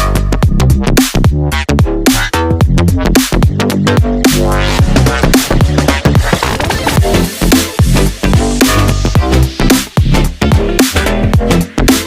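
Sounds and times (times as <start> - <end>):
dubstep music with heavy bass: 0.0 - 12.0.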